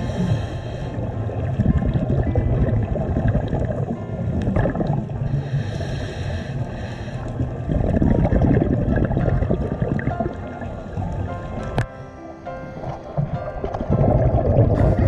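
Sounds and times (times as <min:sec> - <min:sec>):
bubbling and crackling: 0:00.0 - 0:12.0, 0:12.7 - 0:15.0
muffled underwater rumble: 0:00.0 - 0:15.0.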